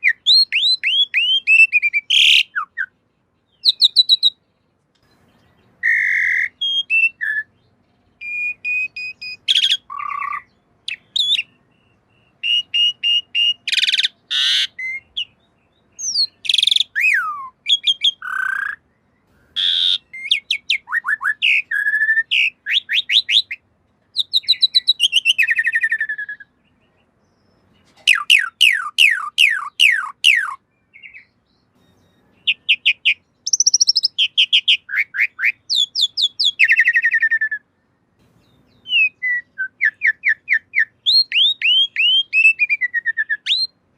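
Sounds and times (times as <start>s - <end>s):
starling singing: 0.0s - 43.8s.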